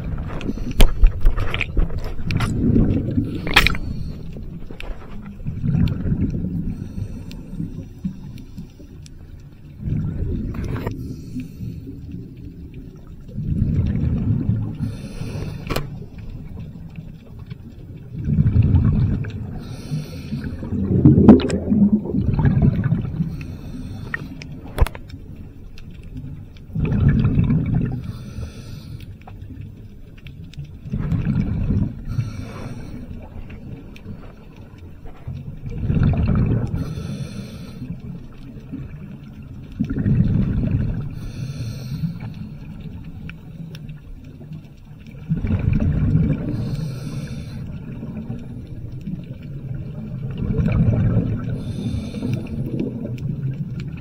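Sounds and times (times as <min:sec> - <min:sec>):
exhaled bubbles rushing underwater: 0:00.0 - 0:28.6, 0:29.4 - 0:54.0
quiet water noise: 0:00.0 - 0:54.0.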